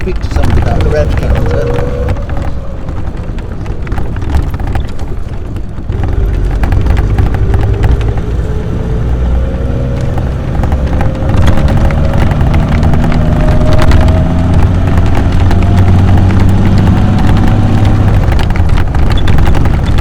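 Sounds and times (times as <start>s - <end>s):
rising whine: 0.0s - 18.5s
car engine pulling: 0.0s - 20.0s
wind and road noise: 0.0s - 20.0s.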